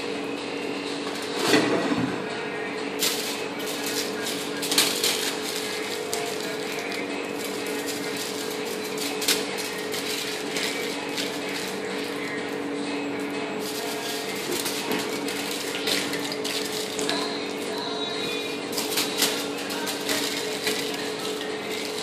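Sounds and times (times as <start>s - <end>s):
steady hum: 0.0s - 22.0s
aluminium foil crinkling: 3.0s - 22.0s.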